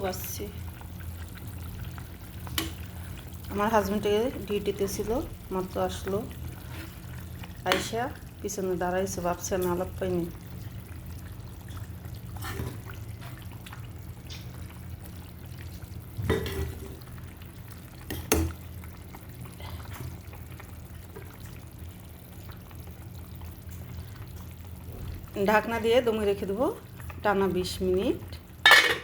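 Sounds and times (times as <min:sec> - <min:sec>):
curry bubbling in a pot: 0:00.0 - 0:28.7.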